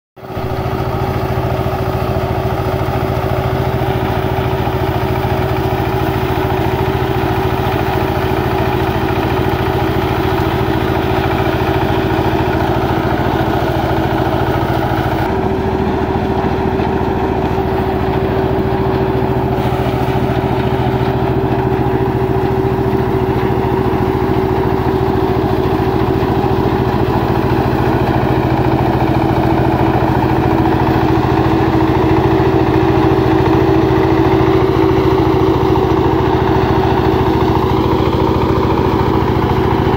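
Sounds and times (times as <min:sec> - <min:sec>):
small engine droning: 0:00.2 - 0:39.9.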